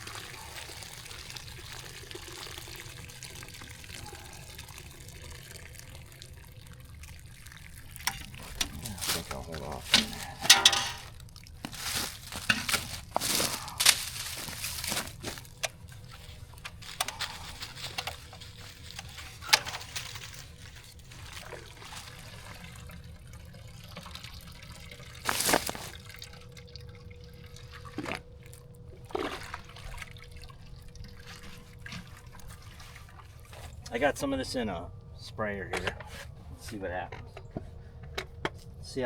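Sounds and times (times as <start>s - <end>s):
liquid trickling and dripping: 0.0s - 36.0s.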